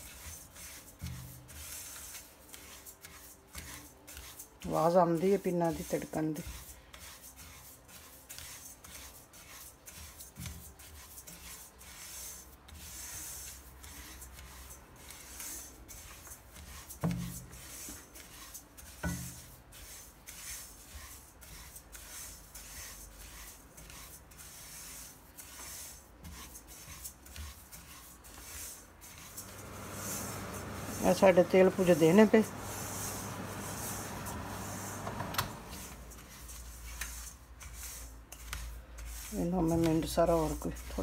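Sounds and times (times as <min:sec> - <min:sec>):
spatula scraping seeds in pot: 0:00.0 - 0:41.0.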